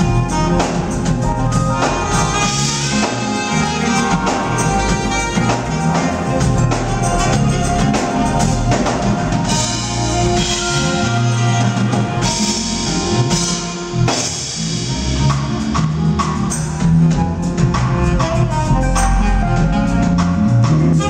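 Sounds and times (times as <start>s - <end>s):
deep bass line: 0.0s - 21.0s
drum kit: 0.0s - 21.0s
live jazz band: 0.0s - 21.0s.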